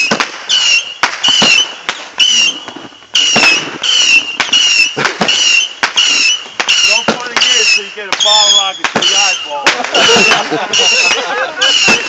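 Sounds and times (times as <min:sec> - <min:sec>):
fireworks popping: 0:00.0 - 0:12.0
fireworks whistling: 0:00.0 - 0:12.0.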